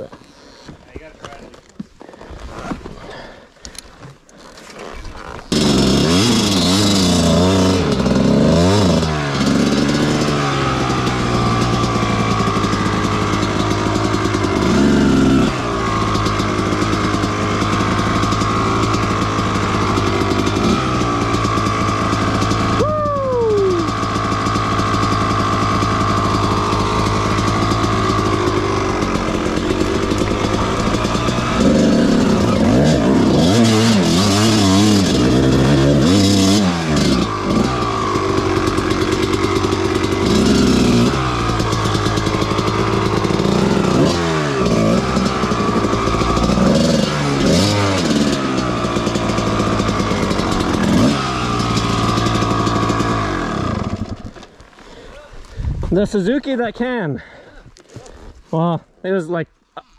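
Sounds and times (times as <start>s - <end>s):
dirt bike engine revving: 5.2s - 55.1s.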